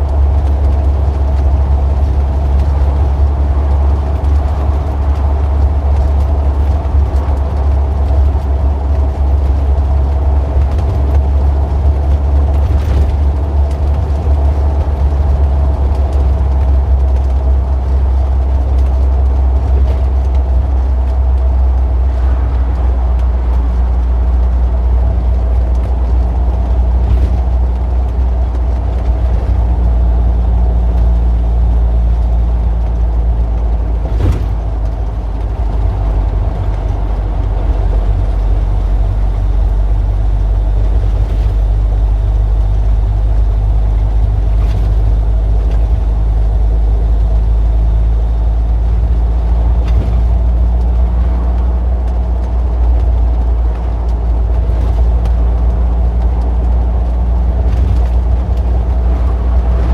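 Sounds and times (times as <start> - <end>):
traffic engine rumble: 0.0 - 59.9.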